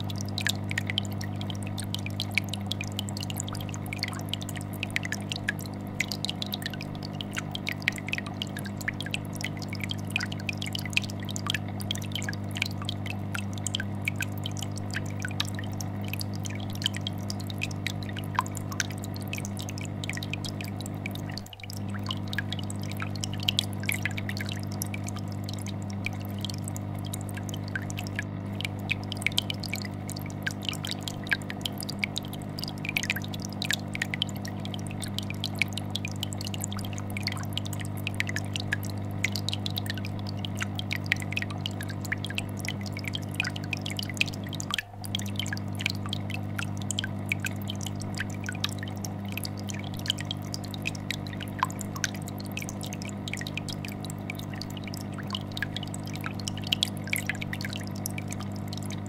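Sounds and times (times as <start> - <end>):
aquarium air bubbler bubbling: 0.0 - 59.0
tank filter humming: 0.0 - 59.0.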